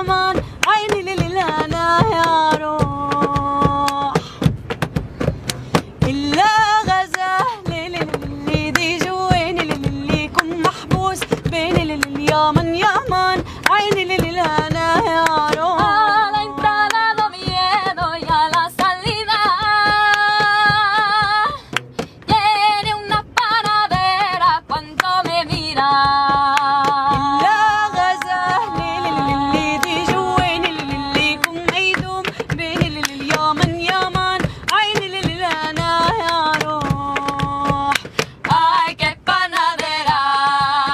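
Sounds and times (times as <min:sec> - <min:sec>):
woman singing folk melody: 0:00.0 - 0:04.6, 0:05.7 - 0:40.9
hand taps beat: 0:00.0 - 0:40.9.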